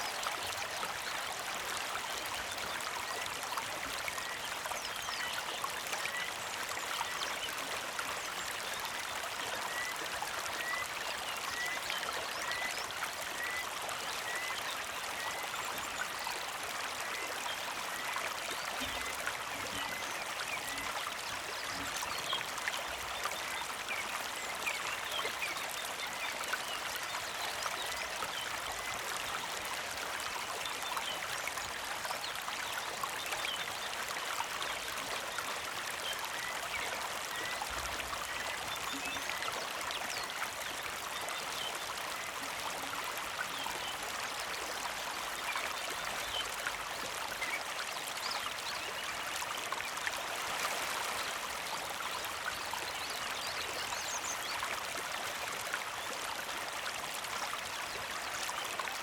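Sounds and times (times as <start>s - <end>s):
creek flowing and trickling: 0.0s - 59.0s.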